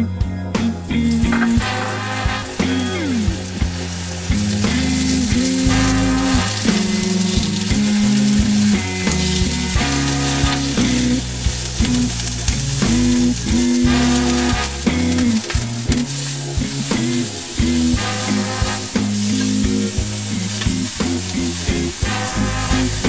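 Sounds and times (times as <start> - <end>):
background music with bass line: 0.0 - 23.0
vegetables sizzling in oil: 0.8 - 23.0.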